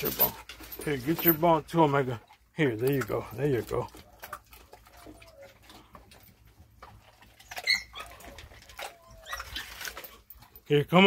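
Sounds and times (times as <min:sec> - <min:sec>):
dog crunching dry kibble: 0:00.0 - 0:11.0.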